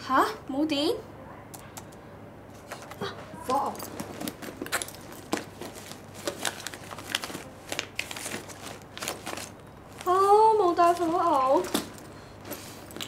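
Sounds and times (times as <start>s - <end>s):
bag rustling: 2.5s - 13.0s.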